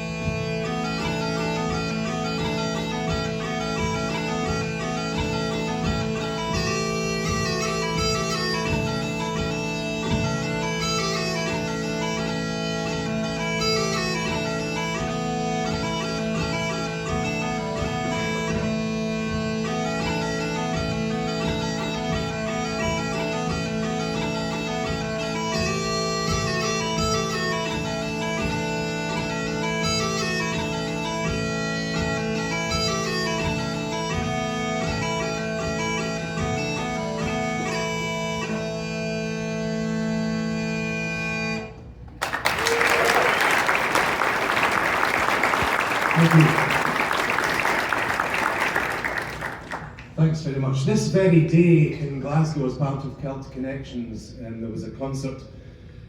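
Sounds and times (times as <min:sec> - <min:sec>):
smallpipes playing a tune: 0:00.0 - 0:50.0.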